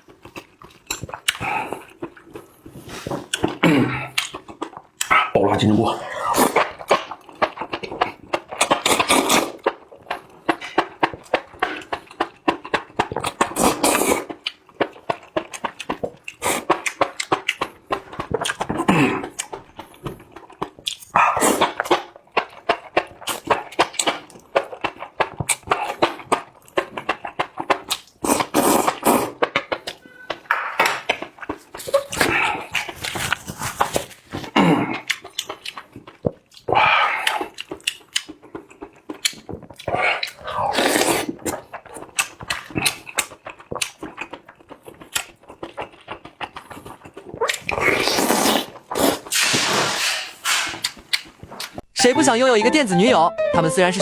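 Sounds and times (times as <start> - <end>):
slurping and chewing: 0.0 - 51.8.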